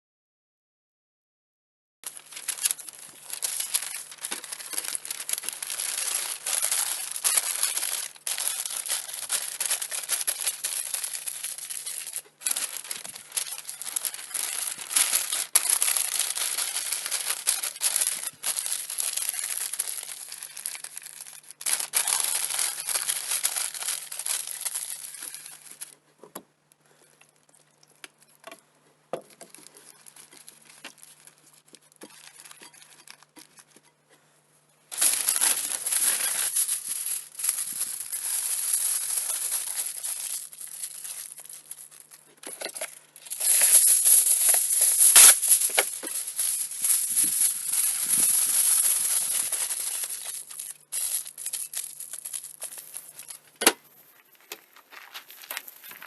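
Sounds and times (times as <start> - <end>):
wrapping material crinkling: 2.0 - 26.0, 29.2 - 33.9, 34.9 - 56.0.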